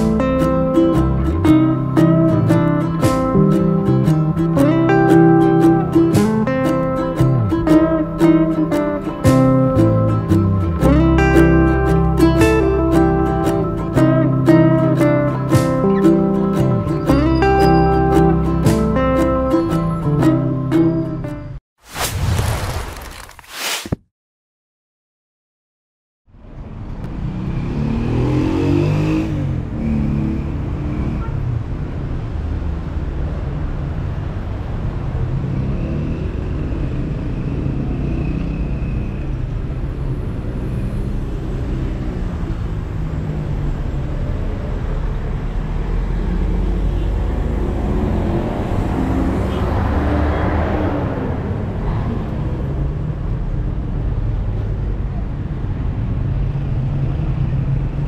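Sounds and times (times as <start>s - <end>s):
cars driving along street: 0.0s - 21.6s, 26.3s - 58.0s.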